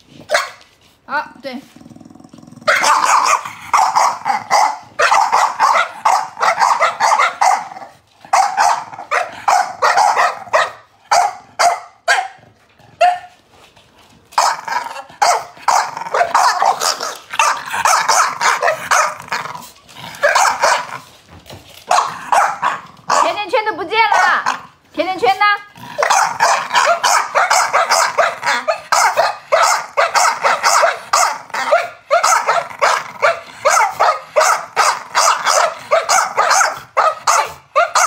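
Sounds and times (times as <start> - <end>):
puppies barking and growling: 1.6 - 24.9, 25.6 - 38.0.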